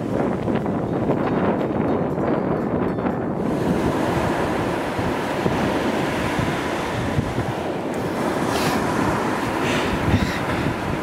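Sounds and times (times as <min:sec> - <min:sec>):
ocean surf breaking: 0:00.0 - 0:01.8, 0:03.3 - 0:11.0
wind buffeting microphone: 0:00.0 - 0:11.0.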